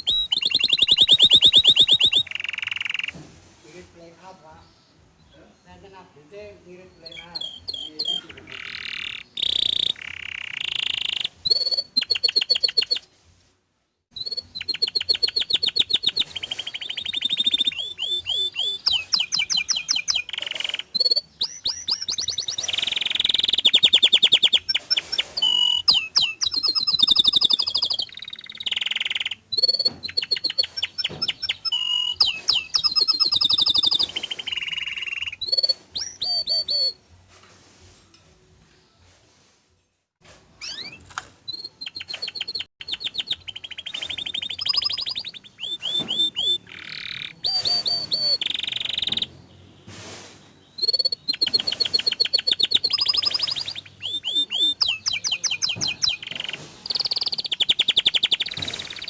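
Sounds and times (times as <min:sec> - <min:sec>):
canary singing trills: 0:00.0 - 0:13.1, 0:14.1 - 0:37.0, 0:40.6 - 0:49.9, 0:50.6 - 0:59.0.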